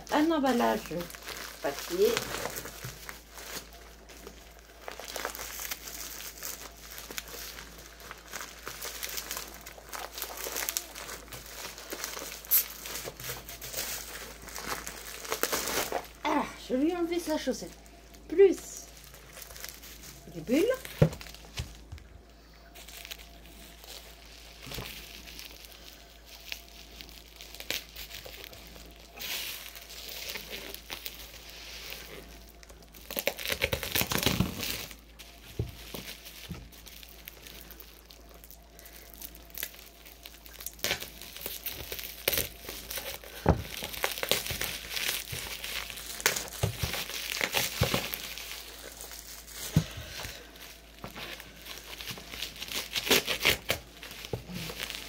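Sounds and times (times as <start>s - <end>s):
bubble wrap crinkling: 0.0s - 55.0s.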